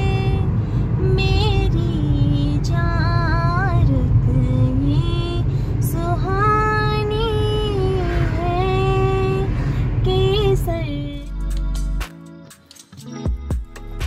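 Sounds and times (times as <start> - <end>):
woman singing: 0.0 - 11.6
car driving rumble: 0.0 - 12.0.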